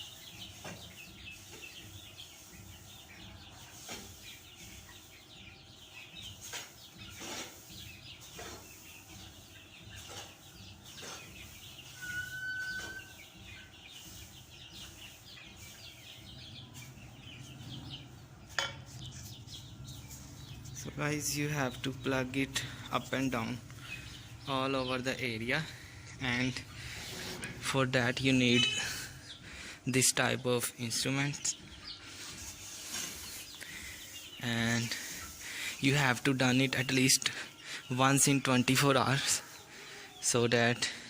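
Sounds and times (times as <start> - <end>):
rake scraping bedding: 0.0 - 29.7, 32.0 - 37.2
chickens clucking and chirping: 0.0 - 41.0.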